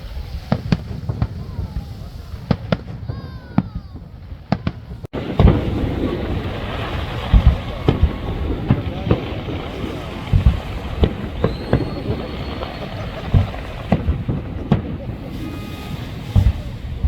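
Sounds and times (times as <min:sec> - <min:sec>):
firework whistle: 0:00.0 - 0:17.0
fireworks booming and cracking: 0:00.0 - 0:17.0.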